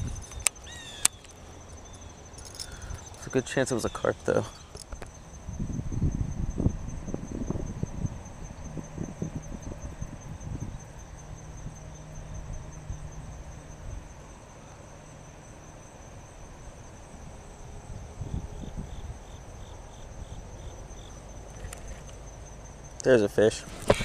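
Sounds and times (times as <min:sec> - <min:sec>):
low wind rumble: 0:00.0 - 0:03.5, 0:04.1 - 0:14.4, 0:16.2 - 0:22.5
insects trilling: 0:00.0 - 0:24.0.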